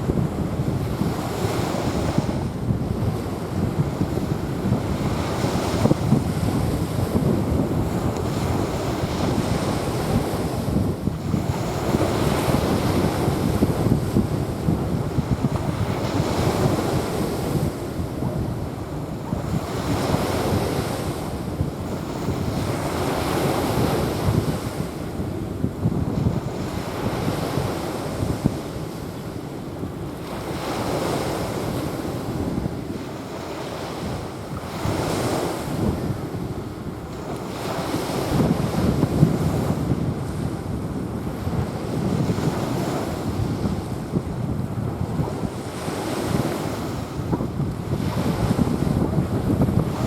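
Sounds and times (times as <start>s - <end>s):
waves washing onto sandy beach: 0.0s - 50.0s
wind buffeting microphone: 0.0s - 50.0s.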